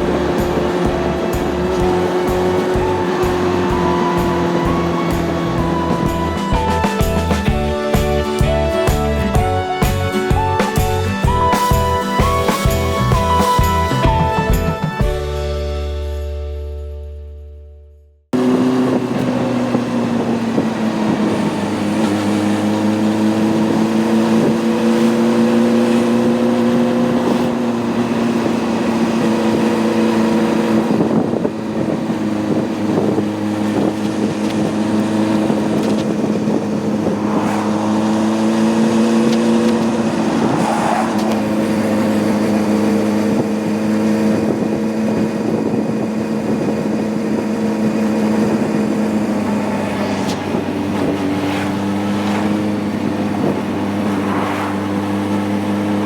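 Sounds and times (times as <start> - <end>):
motorcycle engine running: 0.0 - 15.4, 18.4 - 56.0.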